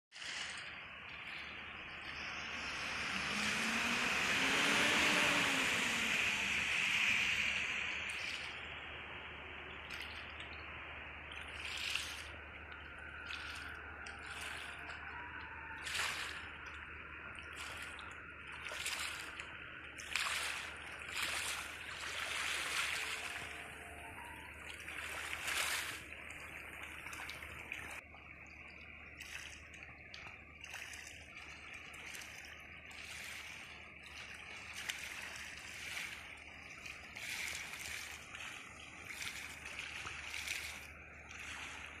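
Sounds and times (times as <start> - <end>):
small waves lapping on shore: 0.1 - 42.0.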